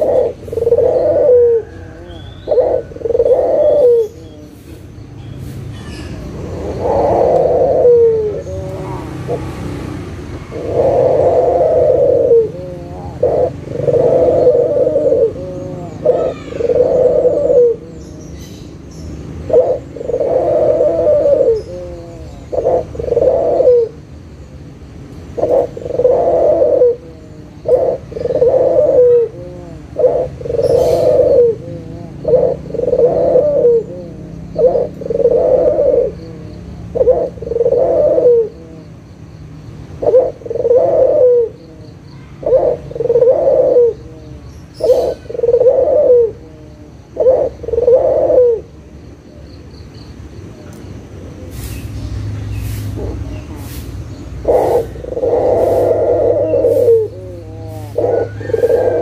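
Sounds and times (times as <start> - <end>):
dove cooing: 0.0 - 4.9, 5.7 - 24.2, 25.3 - 39.2, 39.8 - 49.5, 52.7 - 59.0.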